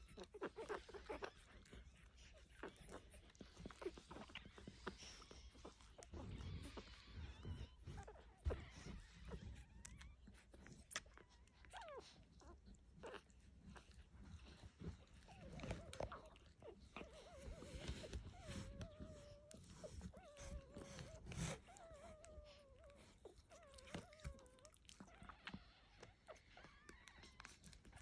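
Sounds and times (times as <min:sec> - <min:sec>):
puppies suckling wet smacks: 0:00.0 - 0:28.0
puppy whining: 0:00.0 - 0:28.0.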